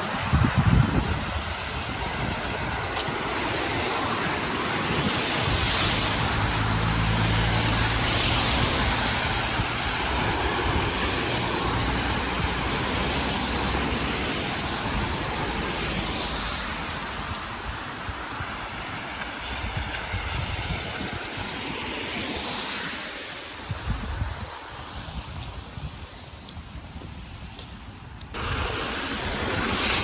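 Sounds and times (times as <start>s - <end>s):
steady rush of wind or water: 0.0s - 30.0s.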